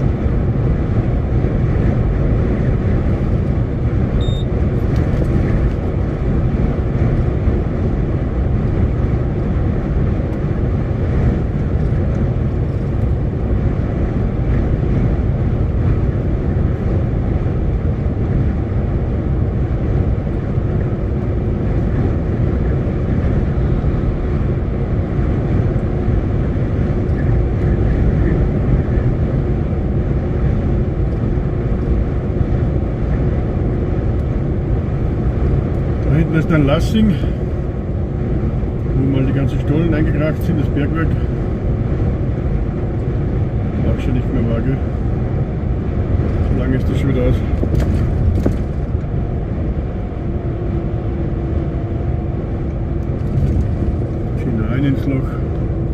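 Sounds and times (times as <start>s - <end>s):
road rumble: 0.0s - 55.9s
truck engine drone: 0.0s - 55.9s.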